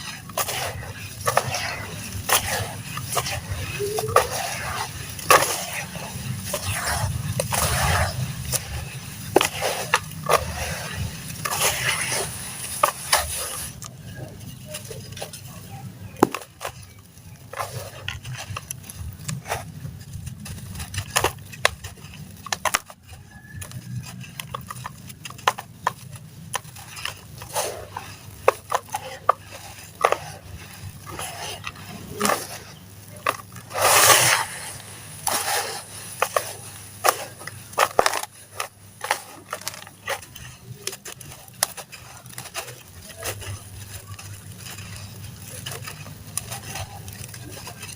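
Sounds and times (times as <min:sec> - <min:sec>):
gritty slabs crunching: 0:00.0 - 0:47.9.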